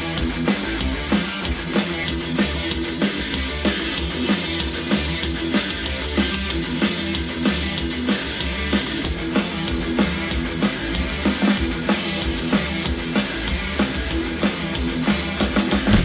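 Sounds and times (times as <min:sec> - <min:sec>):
rock music over speaker: 0:00.0 - 0:16.0.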